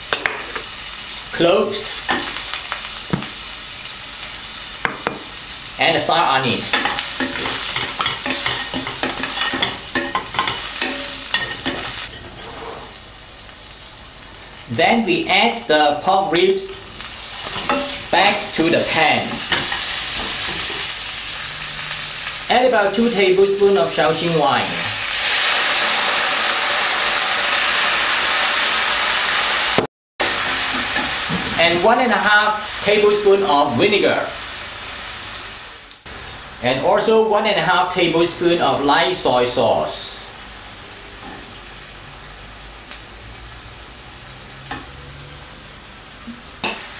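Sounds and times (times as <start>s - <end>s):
spices sizzling in oil: 0.0s - 46.9s.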